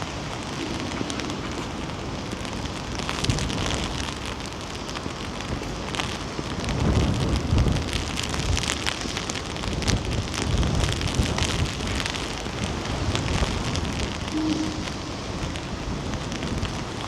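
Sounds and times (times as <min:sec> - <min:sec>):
rain pattering: 0:00.0 - 0:17.0
wind rumbling on microphone: 0:00.0 - 0:17.0.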